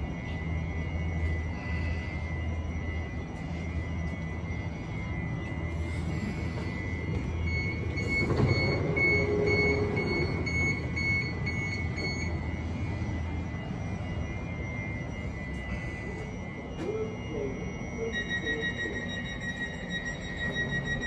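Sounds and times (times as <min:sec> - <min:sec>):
door warning beeps: 0:00.0 - 0:21.0
train equipment humming: 0:00.0 - 0:21.0.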